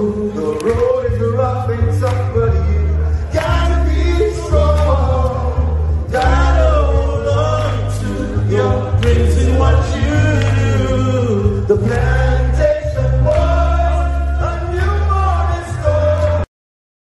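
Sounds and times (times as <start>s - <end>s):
heavy bass backing track: 0.0s - 16.4s
men singing together: 0.0s - 16.5s.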